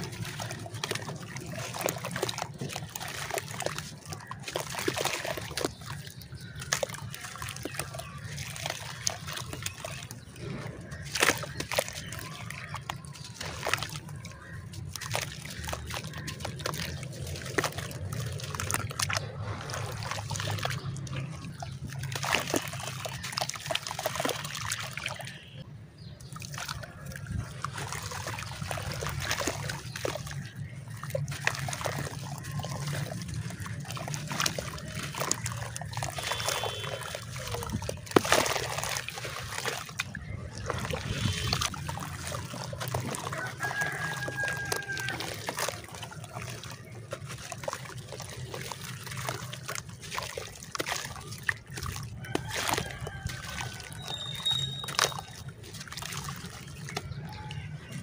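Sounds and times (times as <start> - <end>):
gritty clay crackles: 0.0 - 24.4, 25.6 - 58.0
water sloshing and splashing: 0.0 - 58.0.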